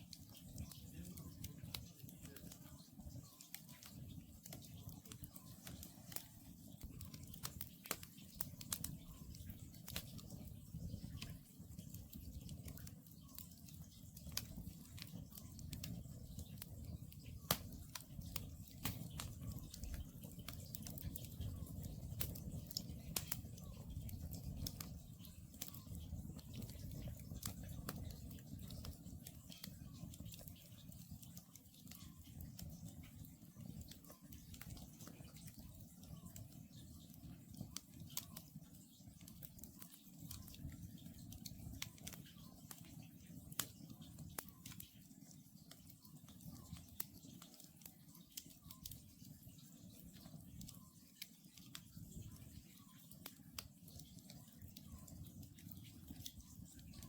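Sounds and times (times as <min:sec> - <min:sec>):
low rush of flames: 0:00.0 - 0:45.8
campfire crackling and popping: 0:00.0 - 0:57.0.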